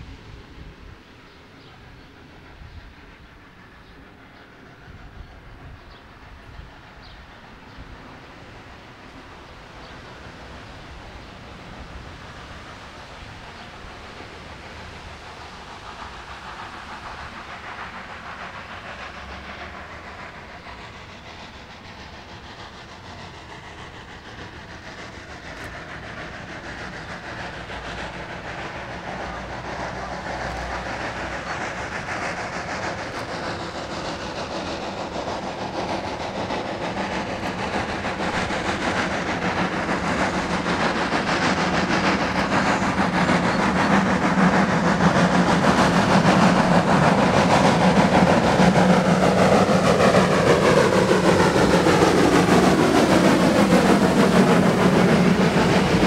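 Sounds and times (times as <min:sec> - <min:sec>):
steam locomotive working steam: 0:00.0 - 0:56.0.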